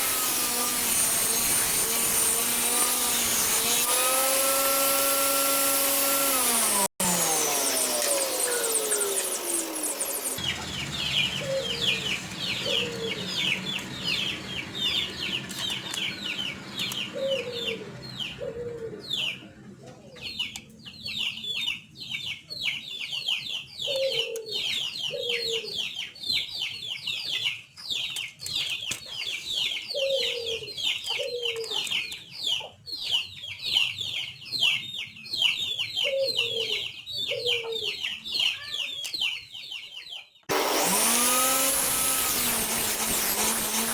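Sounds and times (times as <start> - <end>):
birds chirping: 8.3 - 43.9.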